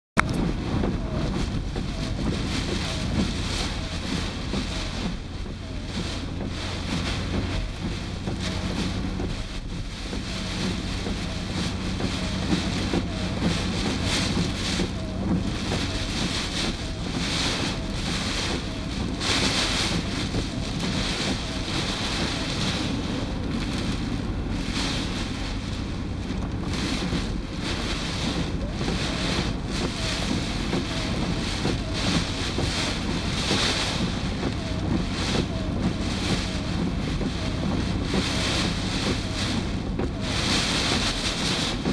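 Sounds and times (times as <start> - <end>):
driving rain: 0.1 - 41.9
strong wind gusting: 0.2 - 41.9.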